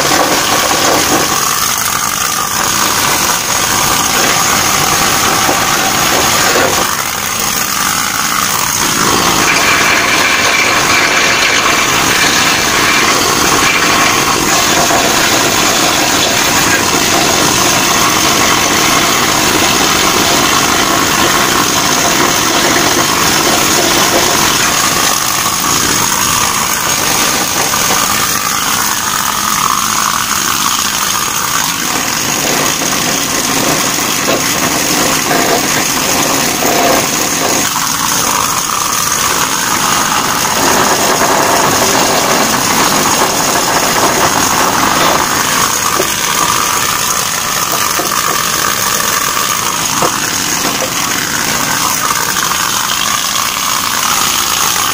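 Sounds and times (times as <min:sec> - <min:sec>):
pneumatic tool hammering on steel: 0:00.0 - 0:54.9.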